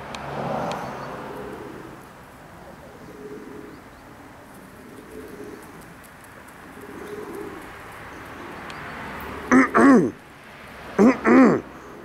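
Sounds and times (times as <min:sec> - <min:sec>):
pigeons cooing: 0:00.9 - 0:10.2, 0:11.0 - 0:12.0.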